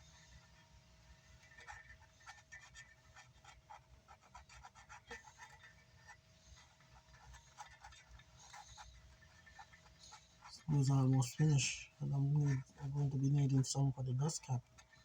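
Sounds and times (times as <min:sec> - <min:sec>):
faint steady tone: 0:00.0 - 0:15.0.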